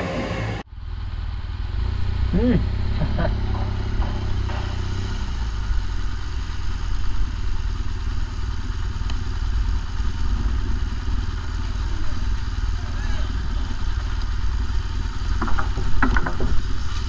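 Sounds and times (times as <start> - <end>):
motorcycle engine at low speed: 0.0 - 17.0.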